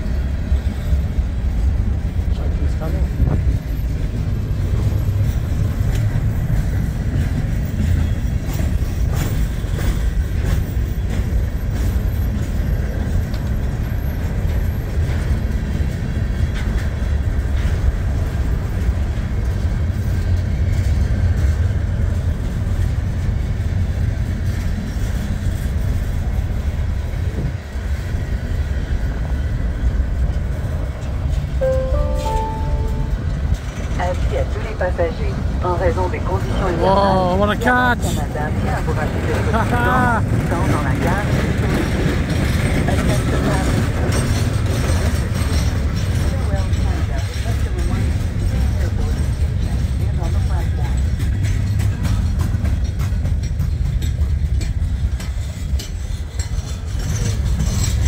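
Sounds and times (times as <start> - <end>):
clicks of train wheels: 0.0 - 34.9, 37.5 - 58.0
train wheels rumbling on rails: 0.0 - 58.0.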